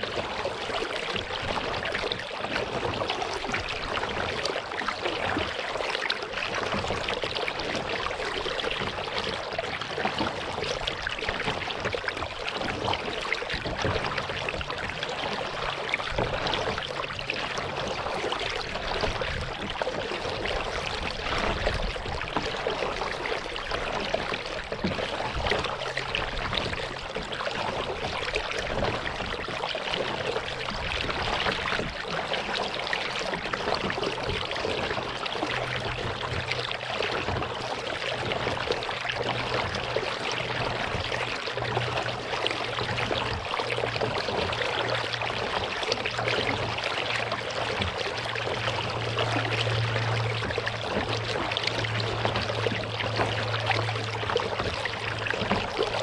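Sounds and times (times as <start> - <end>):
low steady hum: 0.0 - 56.0
paddle splashing water: 0.0 - 56.0.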